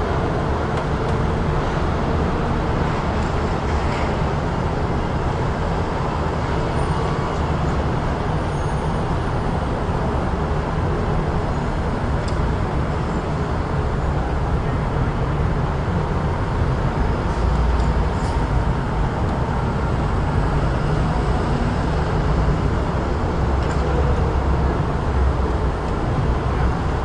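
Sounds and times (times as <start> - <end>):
low rumble of passing vehicles: 0.0 - 27.0.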